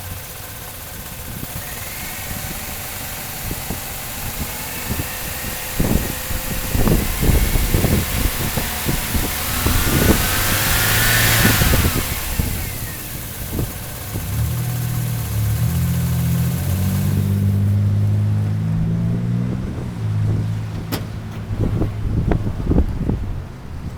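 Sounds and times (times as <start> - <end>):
car engine misfiring: 0.0 - 23.9.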